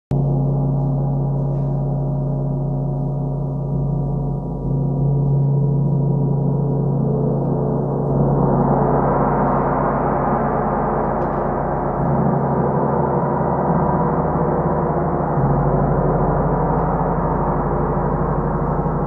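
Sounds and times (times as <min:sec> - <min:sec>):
gong ringing: 0:00.2 - 0:19.0.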